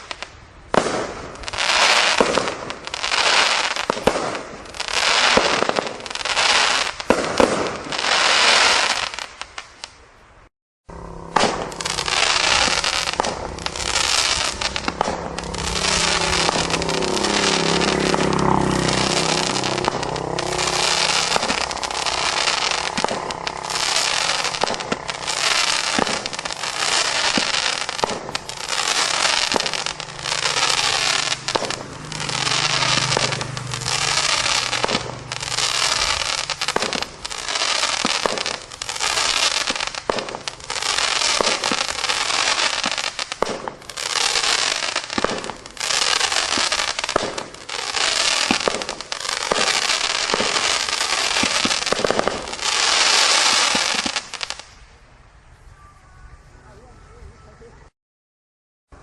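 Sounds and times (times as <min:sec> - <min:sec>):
fireworks firing volleys: 0:00.0 - 0:10.0, 0:10.9 - 0:55.0
firework crackling: 0:00.0 - 0:56.9.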